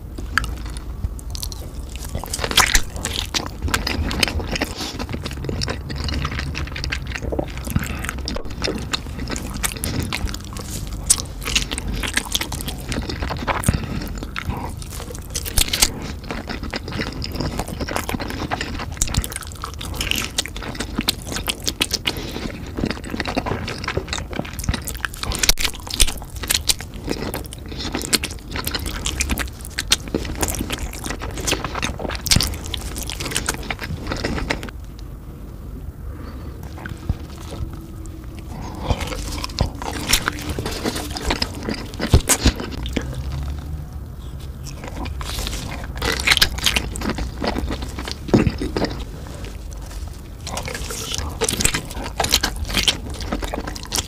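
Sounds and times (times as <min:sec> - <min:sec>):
chewing and biting sausages: 0:00.0 - 0:34.8, 0:36.0 - 0:54.0.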